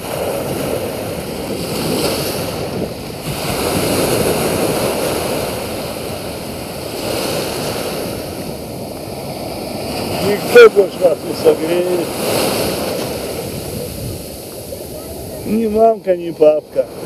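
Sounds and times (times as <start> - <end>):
small waves washing up beach: 0.0 - 17.0.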